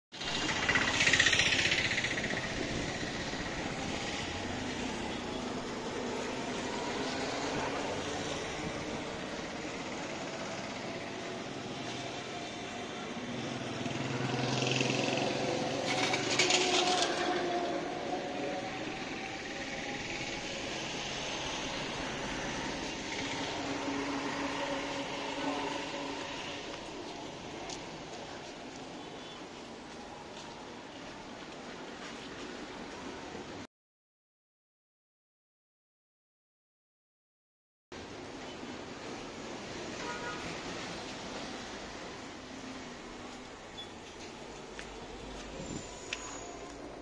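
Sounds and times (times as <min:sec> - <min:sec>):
street traffic rumble: 0:00.2 - 0:33.7, 0:38.0 - 0:47.0.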